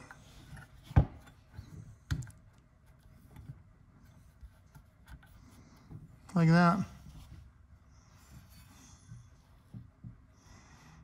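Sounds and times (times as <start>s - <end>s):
faint rubbing and tapping: 0.0s - 10.4s.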